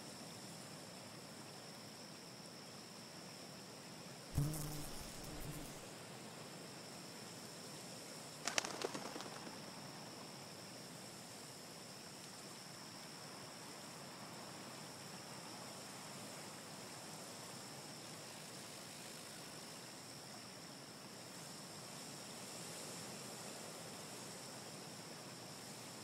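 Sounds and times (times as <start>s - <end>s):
insect drone: 0.0s - 26.0s
soft hiss: 4.2s - 26.0s.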